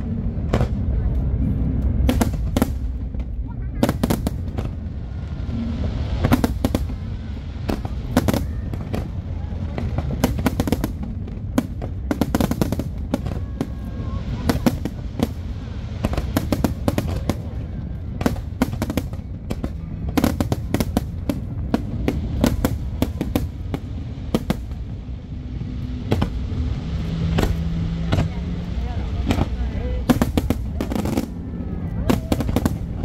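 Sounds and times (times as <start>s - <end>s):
continuous low rumble: 0.0s - 33.0s.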